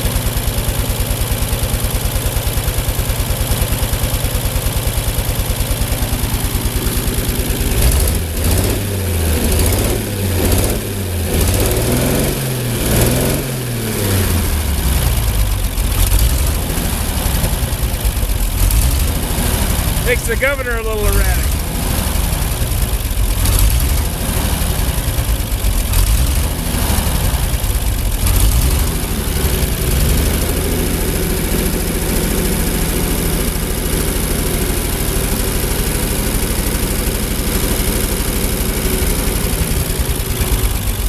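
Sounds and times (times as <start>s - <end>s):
tractor engine idling and surging: 0.0s - 41.0s.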